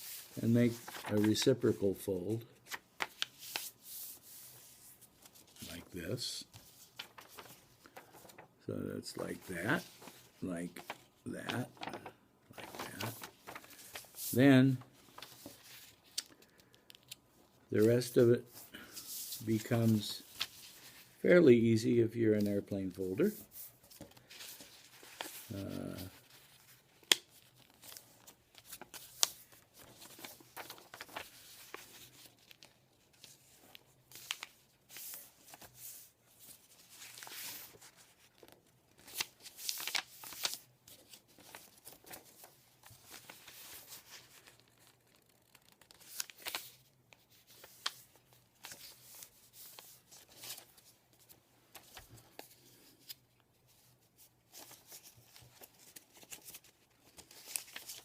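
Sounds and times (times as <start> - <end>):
paper rustling and crackling: 0.0 - 8.5, 9.1 - 17.2, 17.8 - 58.0.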